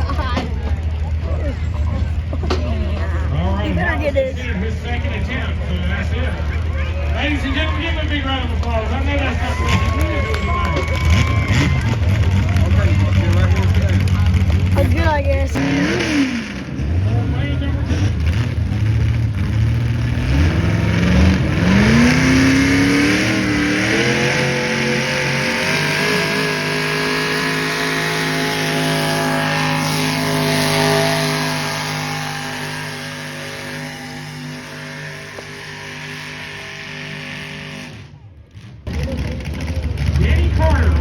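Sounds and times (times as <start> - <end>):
vehicle engine revving at full throttle: 0.0 - 41.0.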